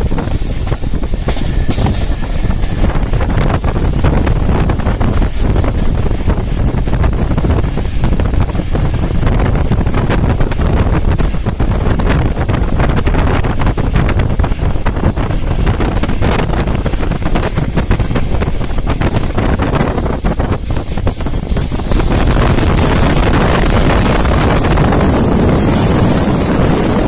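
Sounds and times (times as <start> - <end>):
train track noise: 0.0 - 27.0
wind buffeting microphone: 0.0 - 27.0.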